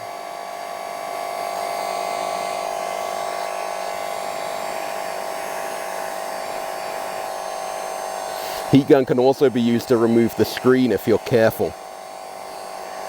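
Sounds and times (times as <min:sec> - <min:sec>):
heat gun fan hum and whine: 0:00.0 - 0:13.0.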